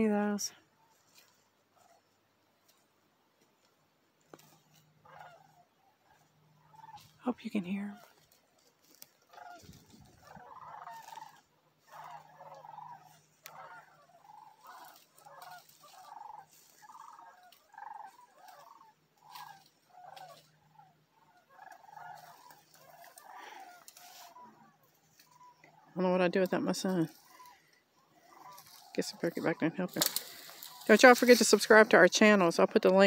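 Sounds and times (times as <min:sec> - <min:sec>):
cranes calling overhead: 0:04.3 - 0:33.0.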